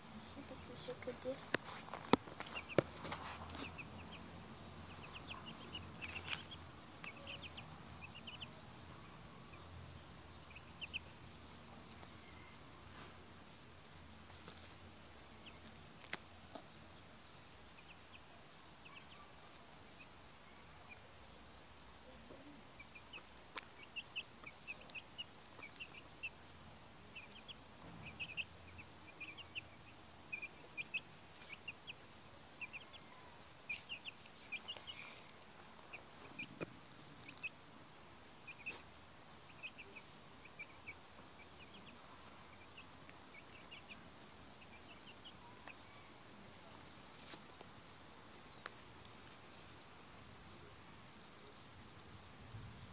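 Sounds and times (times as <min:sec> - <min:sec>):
chicks peeping: 0:00.1 - 0:52.9.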